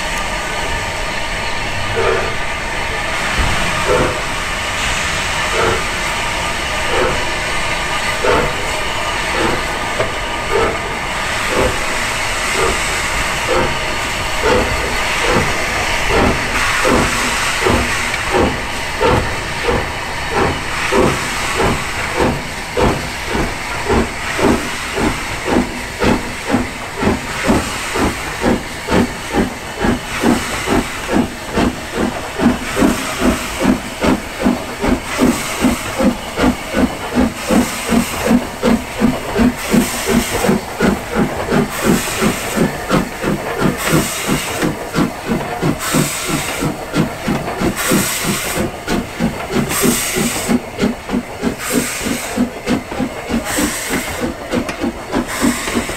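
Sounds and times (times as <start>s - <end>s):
steady hiss of steam: 0.0s - 55.9s
steam locomotive exhaust beats: 0.0s - 55.9s.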